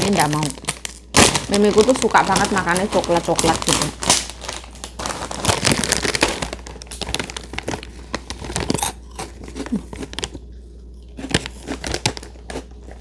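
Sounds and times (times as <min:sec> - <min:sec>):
plastic snack packet crinkling: 0:00.0 - 0:13.0.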